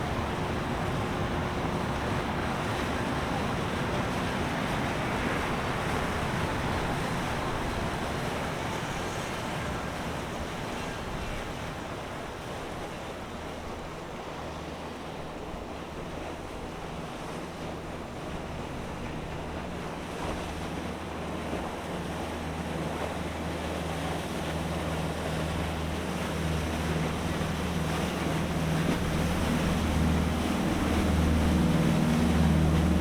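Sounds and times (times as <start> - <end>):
low boat engine hum: 0.0 - 33.0
moving water: 0.0 - 33.0
wind: 0.0 - 33.0.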